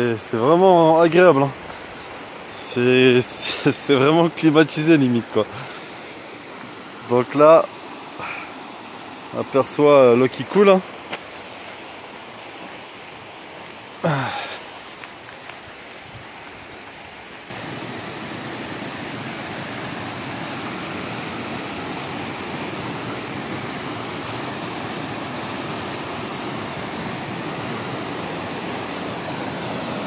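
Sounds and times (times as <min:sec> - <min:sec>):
stream rushing over boulders: 0:00.0 - 0:30.0.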